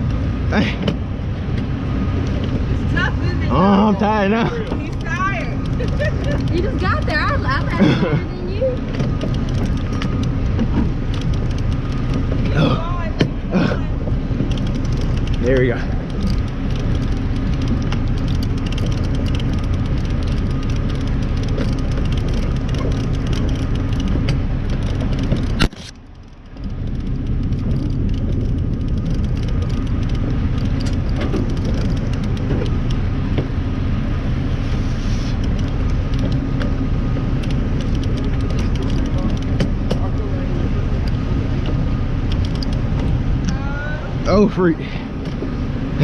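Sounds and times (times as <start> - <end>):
boat engine rumbling: 0.0 - 46.0.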